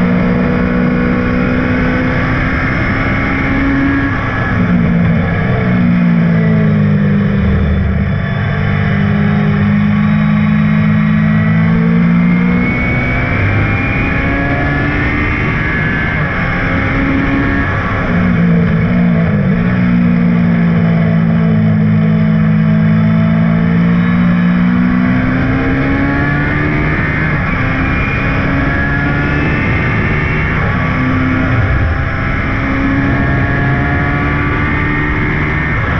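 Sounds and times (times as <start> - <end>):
racing engine at high revs: 0.0 - 35.9.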